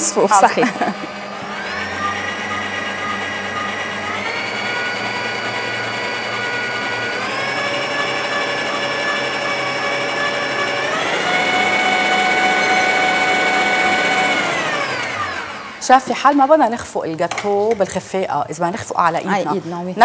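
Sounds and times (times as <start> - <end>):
stand mixer motor whining: 0.0 - 19.4.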